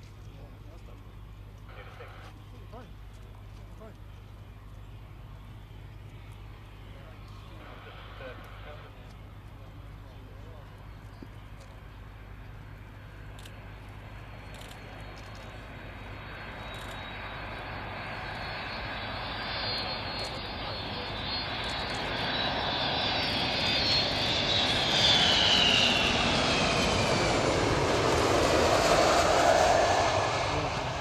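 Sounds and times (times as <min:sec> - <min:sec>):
jet engines on landing approach: 0:01.1 - 0:31.0.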